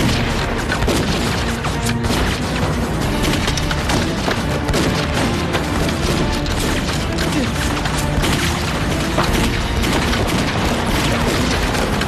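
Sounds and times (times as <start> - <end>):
dramatic background music: 0.0 - 12.0
rifle gunfire: 0.0 - 12.0.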